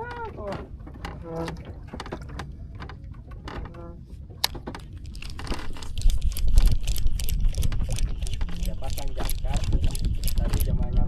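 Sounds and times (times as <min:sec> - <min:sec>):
small clicks and rattles: 0:00.0 - 0:11.0.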